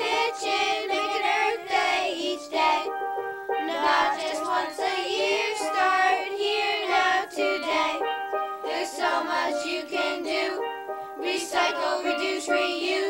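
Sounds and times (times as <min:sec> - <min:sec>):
bright instrumental backing: 0:00.0 - 0:13.0
children singing: 0:00.0 - 0:13.0.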